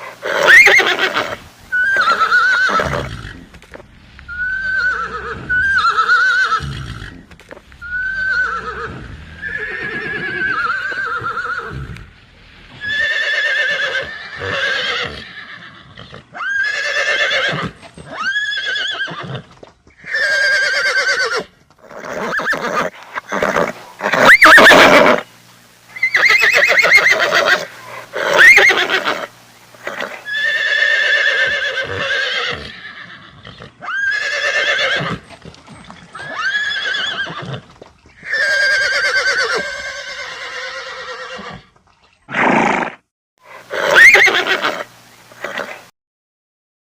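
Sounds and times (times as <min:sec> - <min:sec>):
horse neighing and whinnying: 0:00.0 - 0:12.1, 0:12.7 - 0:25.3, 0:26.0 - 0:43.0, 0:43.6 - 0:45.8.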